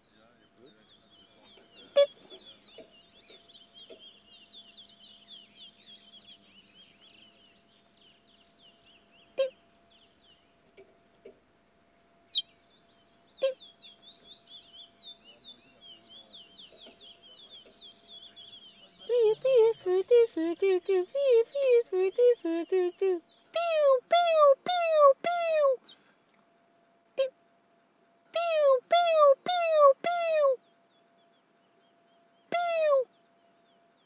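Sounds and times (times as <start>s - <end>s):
birds chirping and twittering: 0.0s - 25.1s, 27.7s - 34.0s
faint steady hum: 0.0s - 34.0s.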